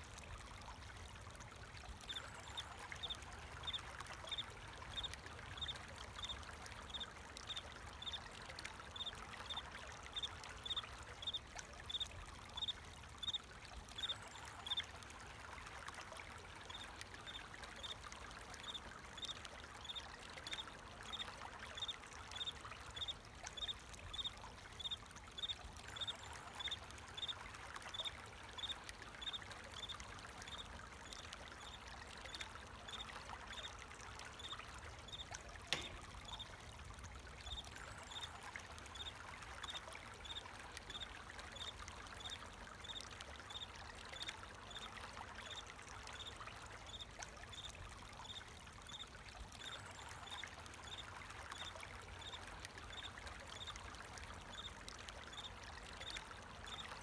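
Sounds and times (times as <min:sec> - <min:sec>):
trickle of flowing water: 0:00.0 - 0:57.0.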